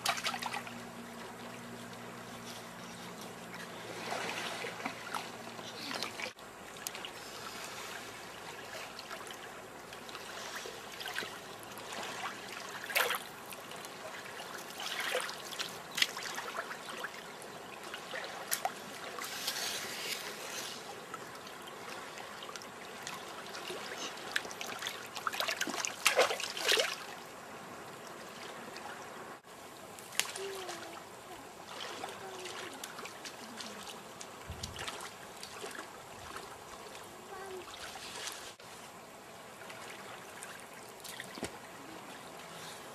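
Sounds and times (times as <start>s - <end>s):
water splashes: 0.0s - 27.3s, 27.9s - 38.7s, 39.4s - 42.8s
water lapping and trickling: 0.0s - 42.9s.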